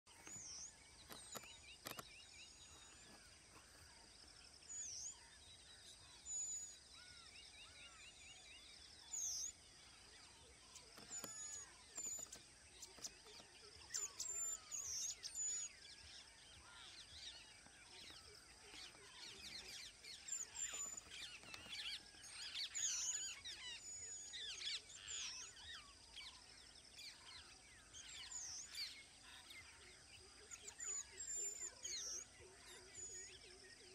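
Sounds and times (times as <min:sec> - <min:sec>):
birds chirping and calling: 0:00.1 - 0:33.9
faint outdoor hiss: 0:00.1 - 0:33.9.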